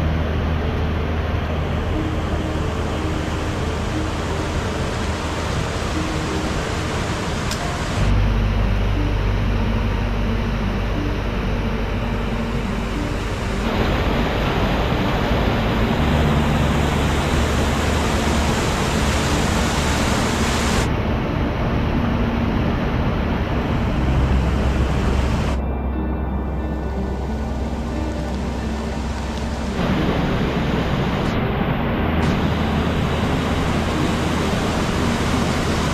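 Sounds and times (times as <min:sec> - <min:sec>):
rushing stream water: 0:00.0 - 0:35.9.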